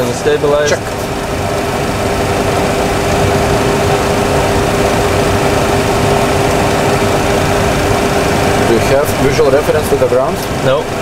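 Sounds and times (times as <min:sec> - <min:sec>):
engine and airflow rush: 0:00.0 - 0:11.0
steady mid-pitched hum: 0:00.0 - 0:11.0.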